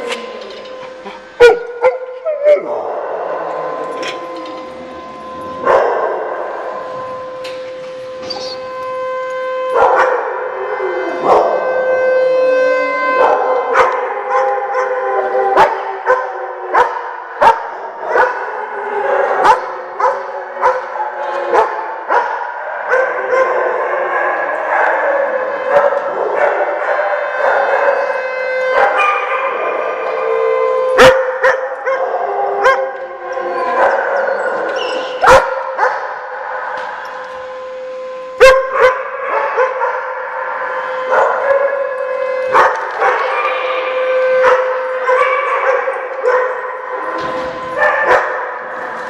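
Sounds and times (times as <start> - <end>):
dogs barking and howling: 0.0 - 49.0
warning siren wailing: 0.0 - 49.0.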